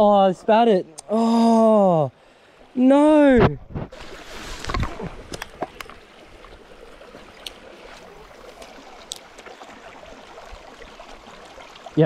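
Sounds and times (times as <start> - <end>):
creek trickling over stones: 0.0 - 12.0.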